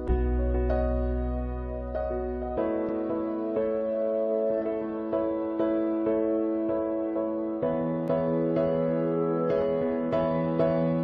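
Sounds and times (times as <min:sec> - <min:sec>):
soft slow instrumental music: 0:00.0 - 0:11.0.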